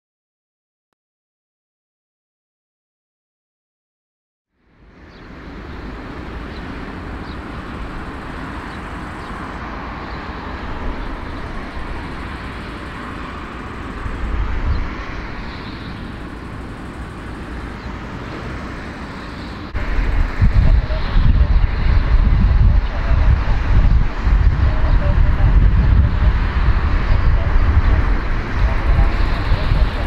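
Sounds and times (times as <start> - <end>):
jet airliner taxiing: 4.8 - 30.0
wind gusts on microphone: 4.9 - 30.0.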